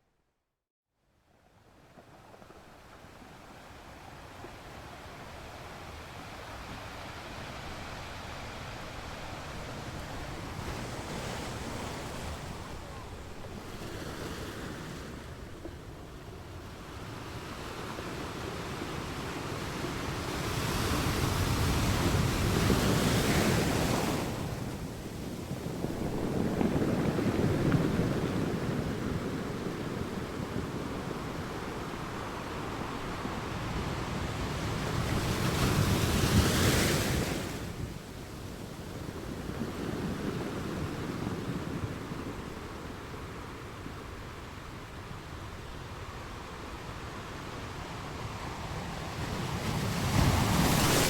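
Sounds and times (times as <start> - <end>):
ocean waves breaking: 3.4 - 51.0.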